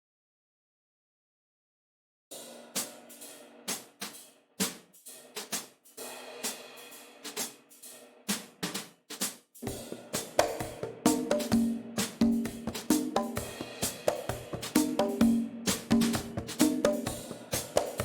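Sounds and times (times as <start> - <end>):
electronic drum beat: 2.7 - 18.0.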